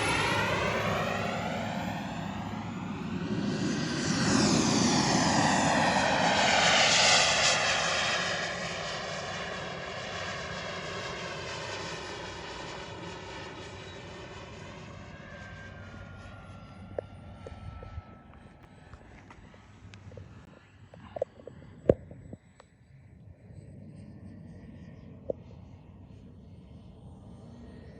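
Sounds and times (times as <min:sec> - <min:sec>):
model airplane flying past: 0:00.0 - 0:27.9.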